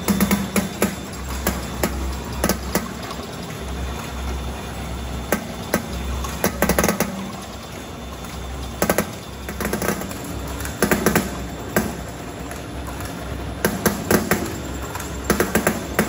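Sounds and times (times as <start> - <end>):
vibrating machine hum: 0.0 - 16.0.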